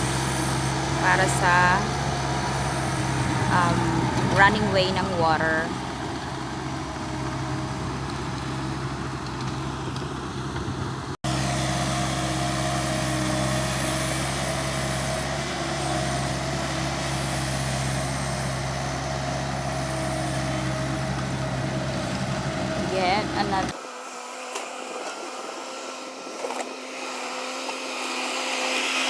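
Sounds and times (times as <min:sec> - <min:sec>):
mini skid steer engine running: 0:00.0 - 0:29.0.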